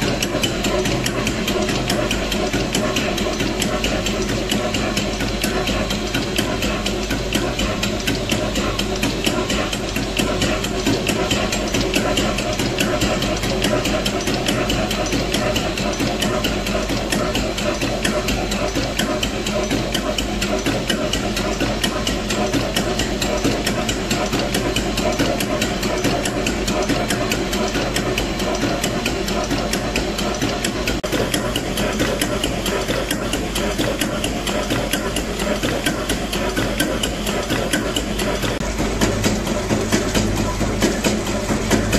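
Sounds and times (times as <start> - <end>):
valve gear ticking clatter: 0.0 - 41.9.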